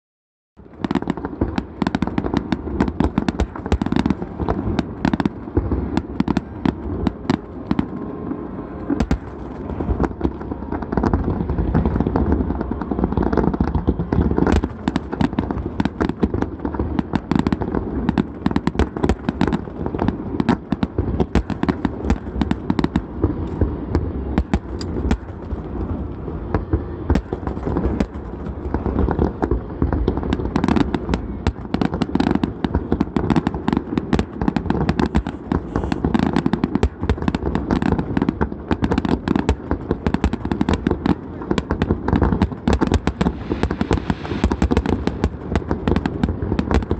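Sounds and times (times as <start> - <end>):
fireworks bursts and booms: 0.6 - 46.9.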